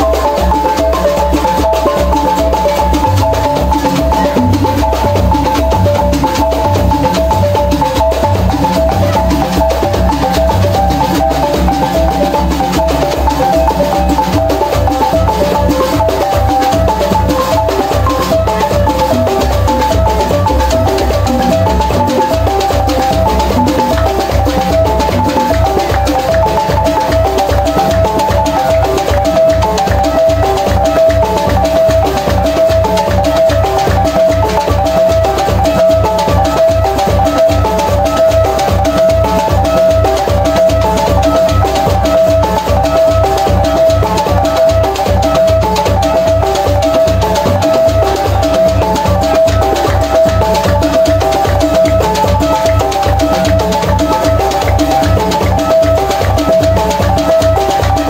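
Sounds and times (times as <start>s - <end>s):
steady drum beat: 0.0s - 58.0s
wooden xylophone melody: 0.0s - 58.0s.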